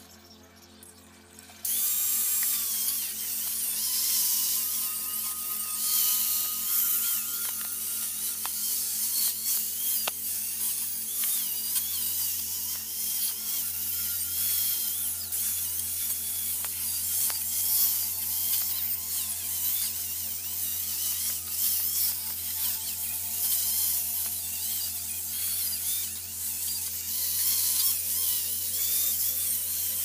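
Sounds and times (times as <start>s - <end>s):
grinder motor whine: 0.0s - 30.0s
wire brush grinder scraping metal: 1.4s - 30.0s.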